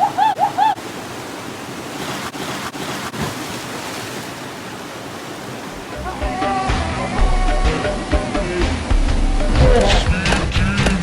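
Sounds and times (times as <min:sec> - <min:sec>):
falling water rushing: 0:00.0 - 0:10.6.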